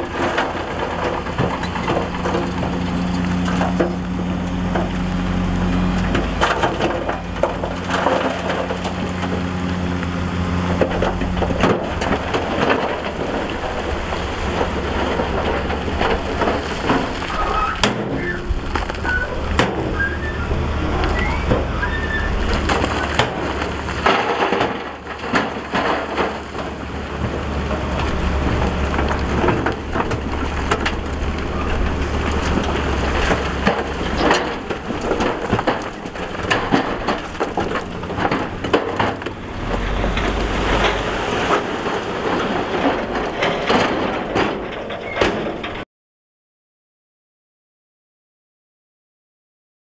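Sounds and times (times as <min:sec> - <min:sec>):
low machine rumble: 0:00.0 - 0:45.0
rock and soil crunching and clattering: 0:00.0 - 0:45.8.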